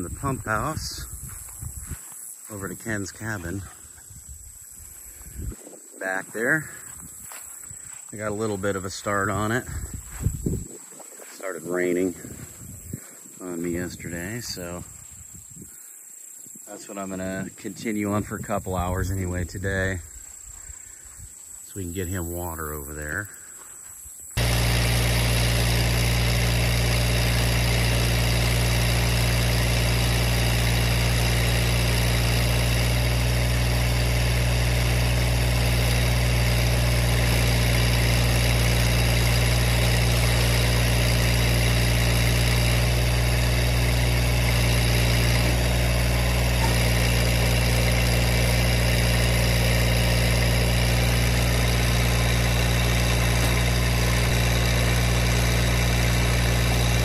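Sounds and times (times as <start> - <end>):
tractor diesel engine running: 0.0 - 15.0, 16.8 - 20.1, 21.9 - 23.3, 24.4 - 57.0.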